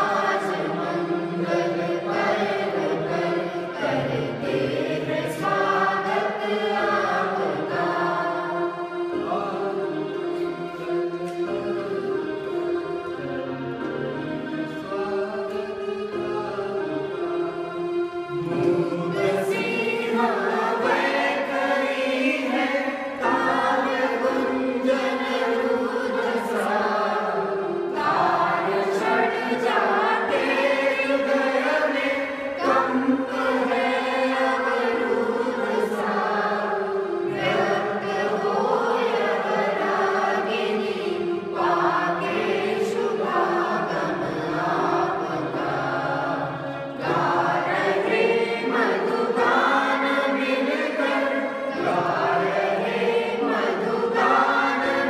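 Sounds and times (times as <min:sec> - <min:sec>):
electronic keyboard: 0:00.0 - 0:55.0
group singing in unison: 0:00.0 - 0:55.0.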